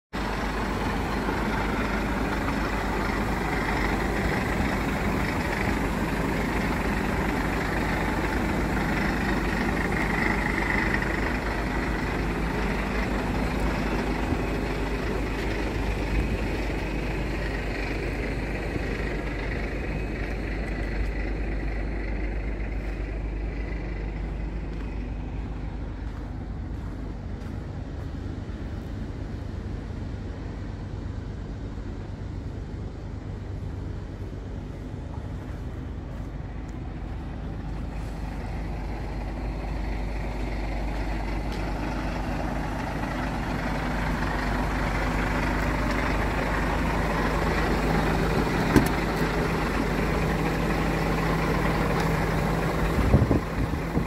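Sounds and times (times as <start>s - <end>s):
truck diesel engine idling: 0.0s - 54.0s.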